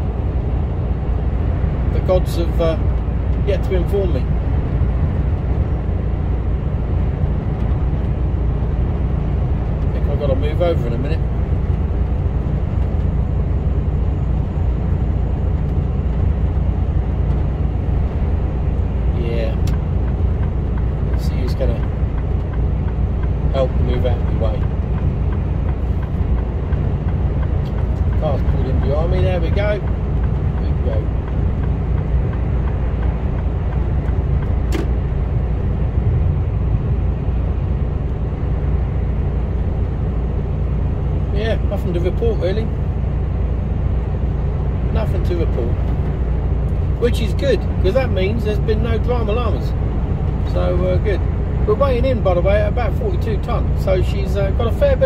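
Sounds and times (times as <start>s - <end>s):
truck engine and road drone: 0.0s - 55.0s.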